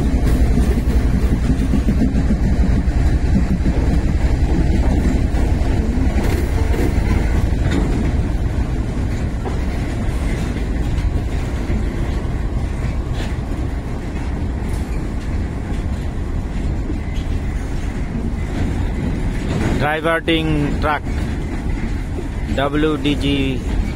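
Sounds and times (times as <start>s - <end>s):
steel wheels rumbling on rails: 0.0s - 23.9s
wheels knocking over rail joints: 0.0s - 23.9s.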